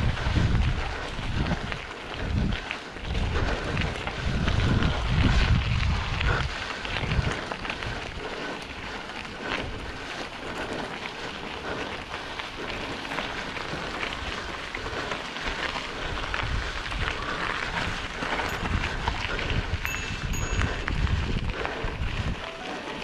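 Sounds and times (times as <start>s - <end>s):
bike tyres crunching gravel: 0.0s - 23.0s.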